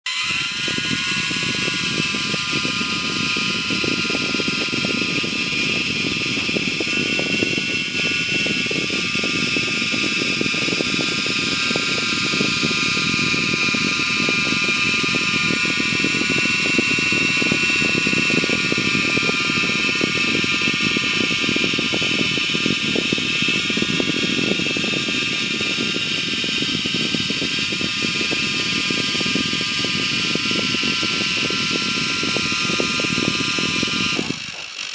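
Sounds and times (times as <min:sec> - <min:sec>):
rc helicopter motor whining: 0:00.0 - 0:34.9.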